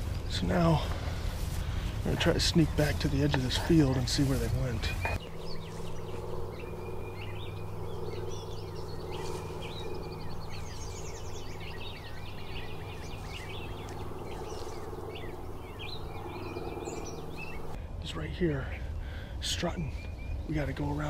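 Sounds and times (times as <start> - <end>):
low hum: 0.0 - 18.0
songbirds chirping and trilling: 0.0 - 21.0.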